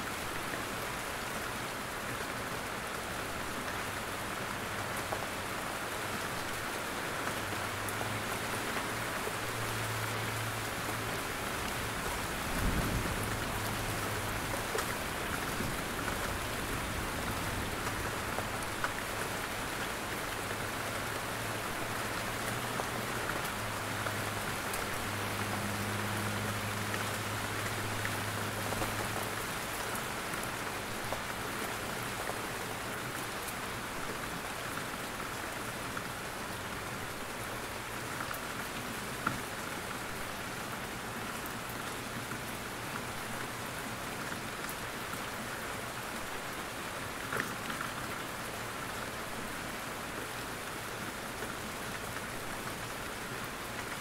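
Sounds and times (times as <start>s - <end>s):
rain pattering through trees: 0.0s - 54.0s.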